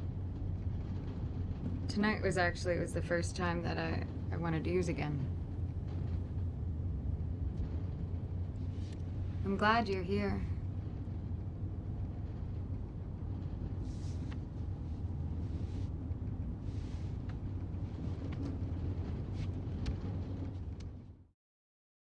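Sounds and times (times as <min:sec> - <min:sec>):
low rumble: 0:00.0 - 0:21.3.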